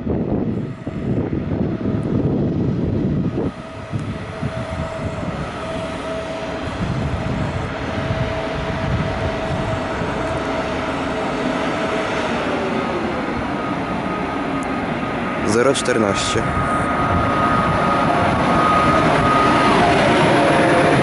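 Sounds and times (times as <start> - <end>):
steady electric whine: 0.0 - 21.0
train rolling noise: 0.0 - 21.0.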